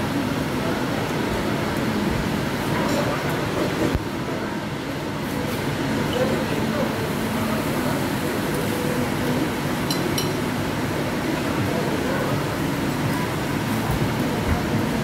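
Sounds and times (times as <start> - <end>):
indistinct background chatter: 0.0 - 15.0.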